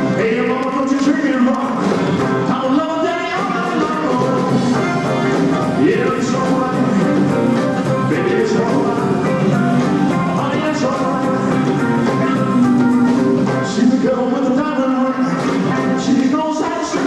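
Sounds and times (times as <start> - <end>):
live rock band playing: 0.0 - 17.0
person singing: 0.0 - 17.0.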